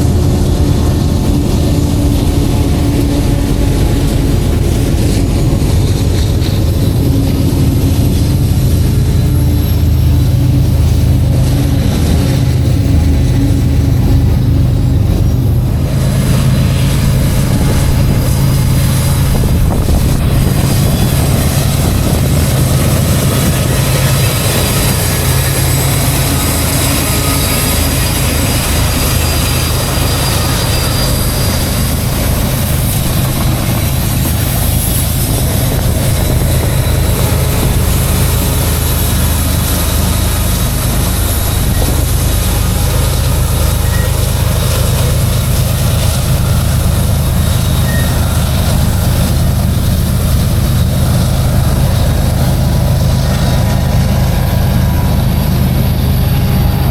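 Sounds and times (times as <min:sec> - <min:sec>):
locomotive engine drone: 0:00.0 - 0:56.9
train wheels rolling on rails: 0:00.0 - 0:56.9.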